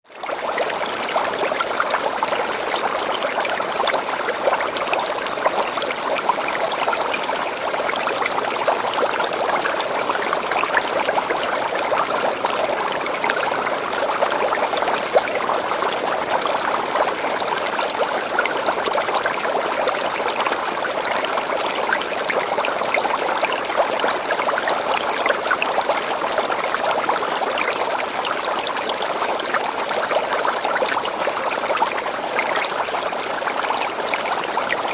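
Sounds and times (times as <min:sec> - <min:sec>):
fish tank bubbles gurgling: 0:00.1 - 0:34.9.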